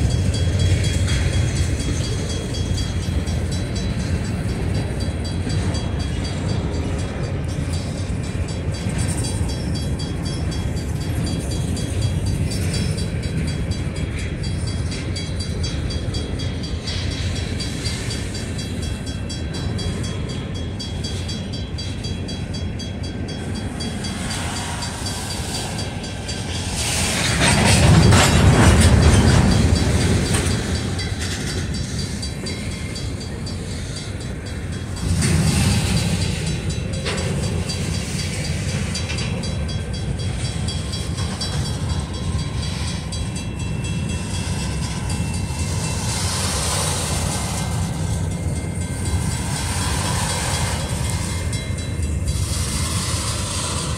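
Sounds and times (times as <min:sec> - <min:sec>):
freight train wheel rumble: 0:00.0 - 0:53.9.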